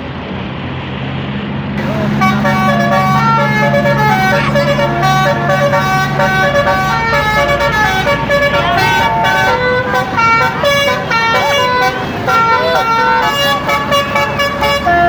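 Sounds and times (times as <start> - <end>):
bus engine low drone: 0.0 - 15.0
bus horn playing a tune: 1.8 - 15.0.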